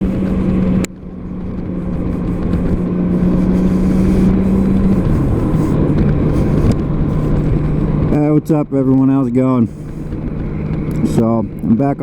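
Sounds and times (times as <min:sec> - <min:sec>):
dense rushing noise: 0:00.0 - 0:12.0
motorcycle engine running: 0:00.0 - 0:12.0.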